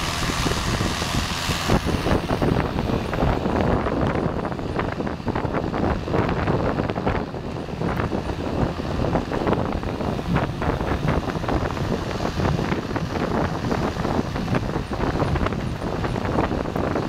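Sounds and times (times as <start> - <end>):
vehicle road noise: 0.0 - 17.0
wind buffeting microphone: 0.0 - 17.0.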